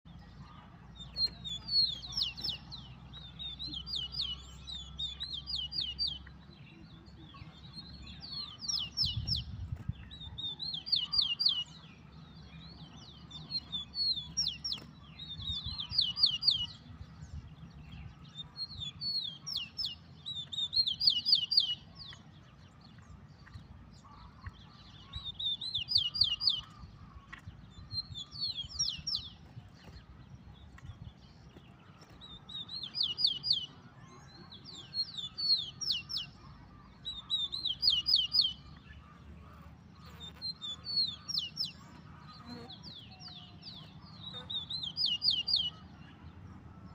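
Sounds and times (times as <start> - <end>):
sparrow singing: 0.1 - 46.9.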